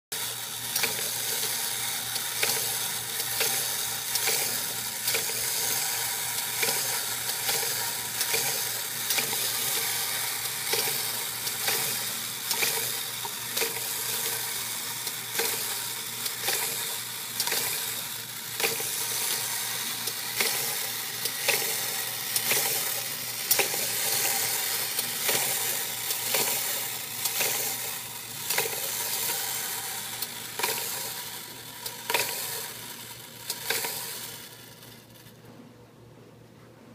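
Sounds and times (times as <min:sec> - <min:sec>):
clockwork motor whirring buzz: 0:00.1 - 0:35.3.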